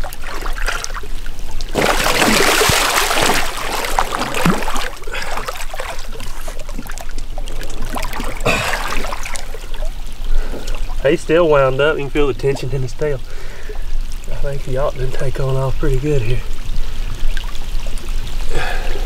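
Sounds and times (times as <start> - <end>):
shallow water splashing: 0.0 - 19.0.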